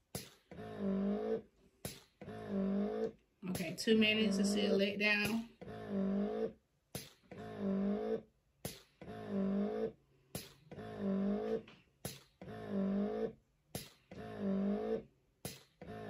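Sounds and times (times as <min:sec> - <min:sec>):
breast pump motor hum: 0:00.5 - 0:06.6, 0:07.3 - 0:08.2, 0:09.0 - 0:15.1.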